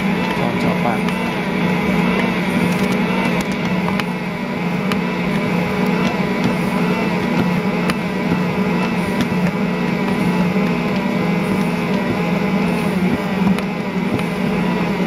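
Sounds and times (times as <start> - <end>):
stand mixer motor hum: 0.0 - 15.0.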